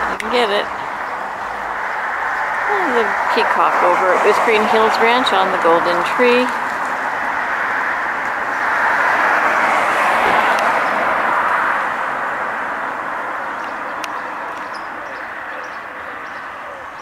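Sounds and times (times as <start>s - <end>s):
vehicle driving past: 0.0s - 17.0s.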